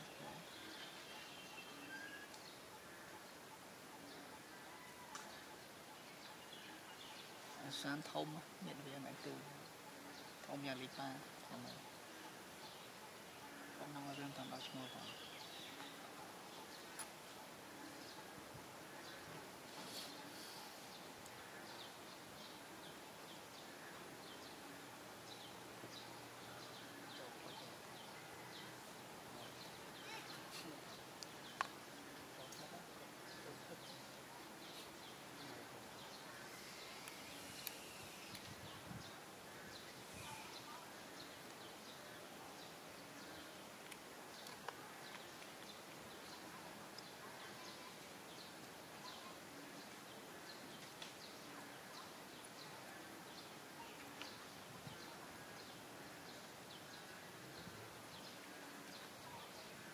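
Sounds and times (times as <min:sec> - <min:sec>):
steady low hiss: 0:00.0 - 0:59.9.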